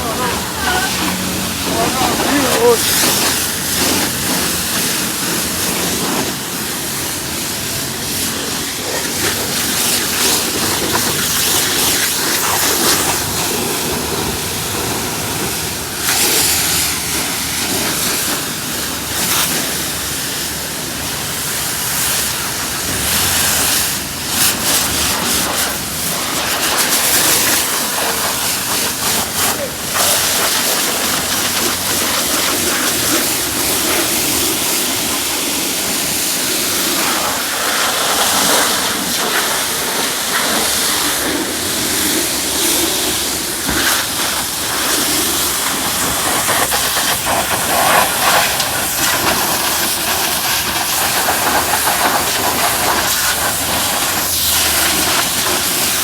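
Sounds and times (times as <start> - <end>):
pressure washer spraying: 0.0 - 56.0.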